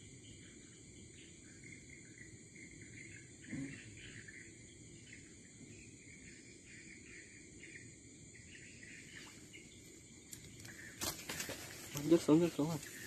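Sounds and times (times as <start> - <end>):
insect chirping: 0.0 - 13.0
insect drone: 0.0 - 13.0.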